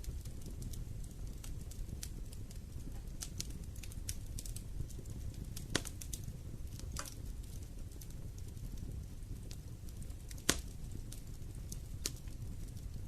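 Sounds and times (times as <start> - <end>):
low rumble of burning: 0.0 - 13.0
wood fire crackling and popping: 0.0 - 13.0.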